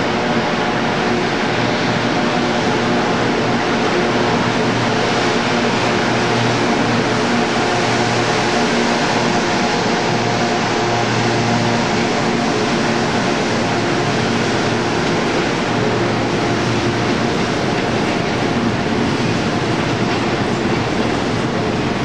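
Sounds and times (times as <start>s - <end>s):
electric locomotive cooling fans roaring: 0.0s - 22.0s.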